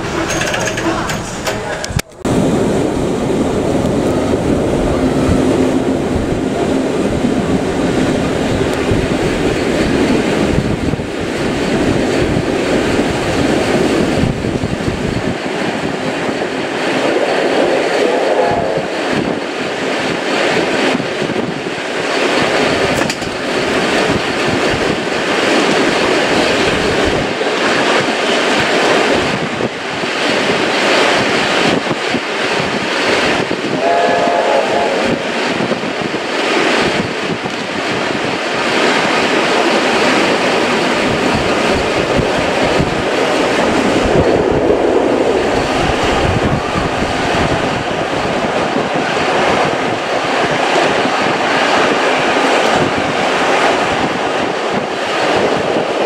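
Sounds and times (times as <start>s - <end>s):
steam train rumbling: 0.0s - 56.0s.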